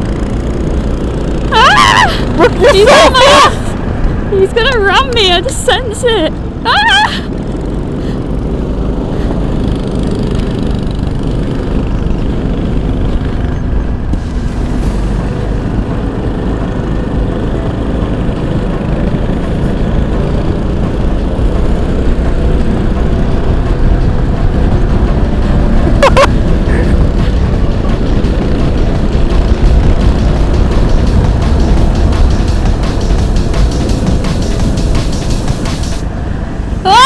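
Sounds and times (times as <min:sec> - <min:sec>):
go-kart engine rumbling: 0:00.0 - 0:37.0.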